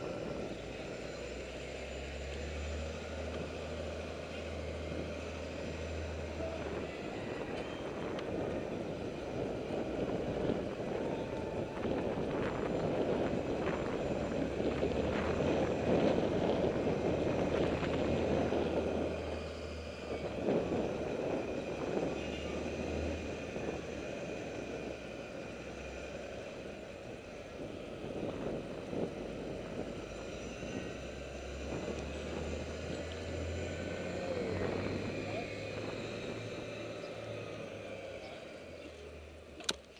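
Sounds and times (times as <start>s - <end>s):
road rumble: 0.0s - 39.9s
wind buffeting microphone: 3.1s - 38.7s.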